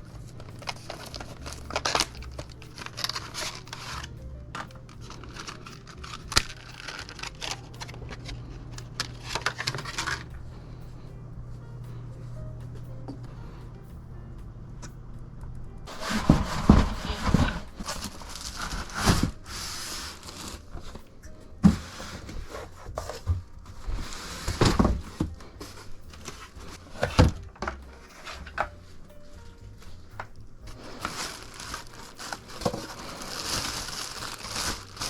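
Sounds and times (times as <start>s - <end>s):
packaging rustling: 0.0s - 10.7s, 15.9s - 35.0s.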